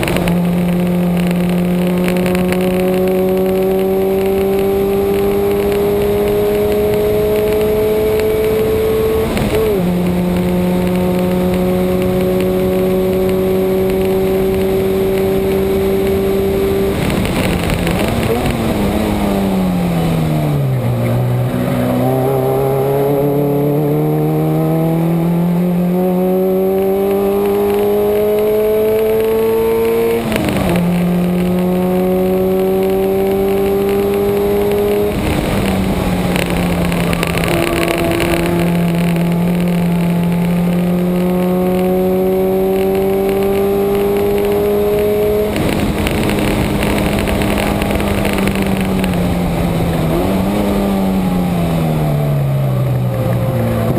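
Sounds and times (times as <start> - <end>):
car engine revving hard: 0.0 - 53.9
wind and road noise: 0.0 - 53.9.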